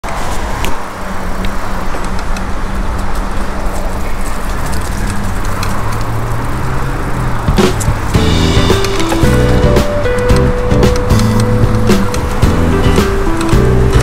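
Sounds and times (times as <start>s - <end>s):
bicycle rolling on concrete: 0.0s - 14.0s
road traffic: 0.0s - 14.0s.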